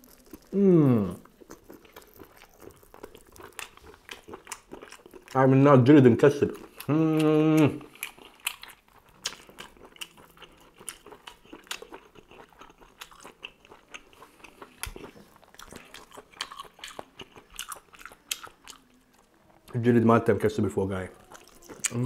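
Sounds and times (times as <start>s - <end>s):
person chewing food: 0.0s - 19.8s, 21.0s - 22.0s.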